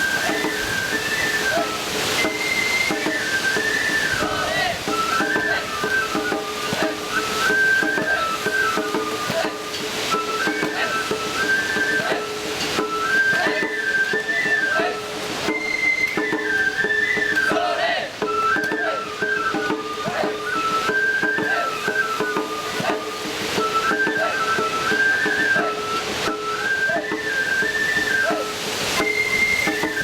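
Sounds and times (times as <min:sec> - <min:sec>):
bamboo flute melody: 0:00.0 - 0:30.0
drum strokes: 0:00.0 - 0:30.0.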